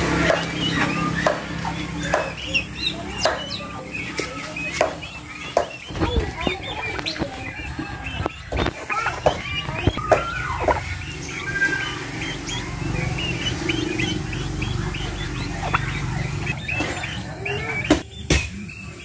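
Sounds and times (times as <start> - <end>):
turkeys clucking: 0.0 - 19.0.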